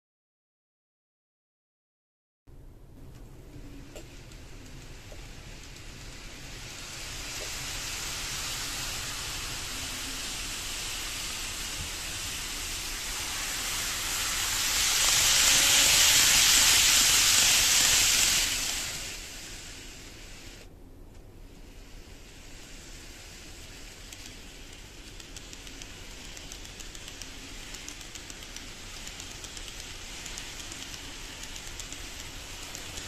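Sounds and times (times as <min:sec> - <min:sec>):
model train running on track: 0:03.4 - 0:20.7, 0:21.4 - 0:33.0.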